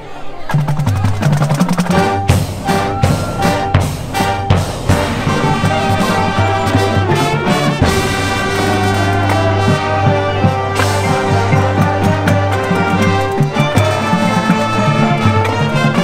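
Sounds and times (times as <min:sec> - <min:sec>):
drum and percussion hits: 0:00.5 - 0:16.0
brass sustained chords: 0:01.9 - 0:16.0.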